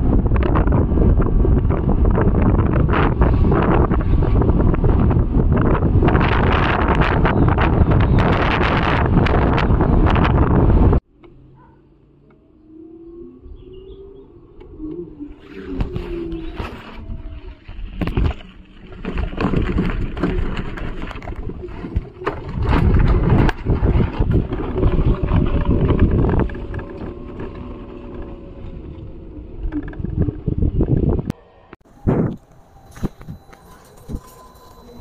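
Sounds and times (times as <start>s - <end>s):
wind buffeting microphone: 0.0s - 11.0s, 12.9s - 35.0s.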